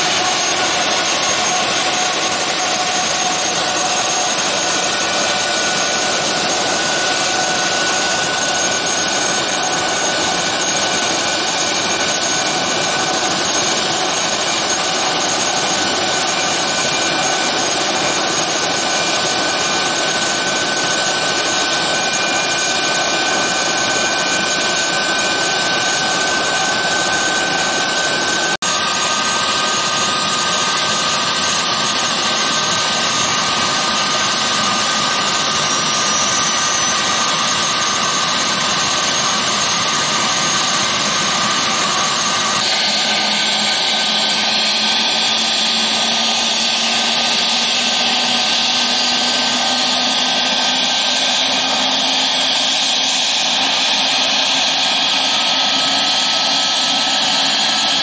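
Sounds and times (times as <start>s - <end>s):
helicopter rotor rushing: 0.0s - 58.0s
helicopter turbine whine: 0.0s - 58.0s.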